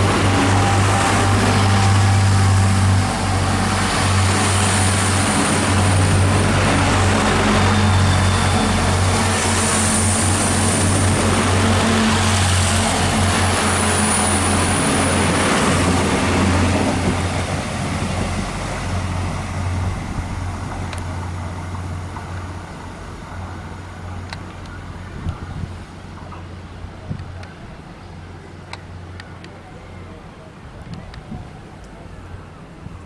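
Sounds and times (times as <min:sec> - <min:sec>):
train running noise rushing: 0:00.0 - 0:29.4
train engines humming: 0:00.0 - 0:33.0.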